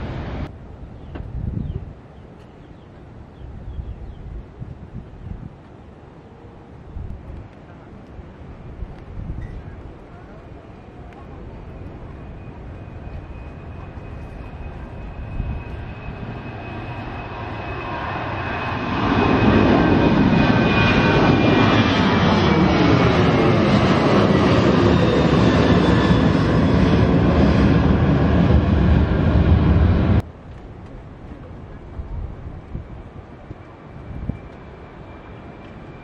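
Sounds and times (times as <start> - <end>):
jet engines roaring at takeoff: 0.0 - 3.8, 5.6 - 36.0.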